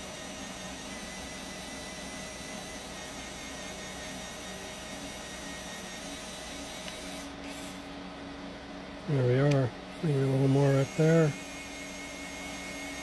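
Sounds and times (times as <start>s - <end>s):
small motor running: 0.0s - 7.9s, 9.9s - 13.0s.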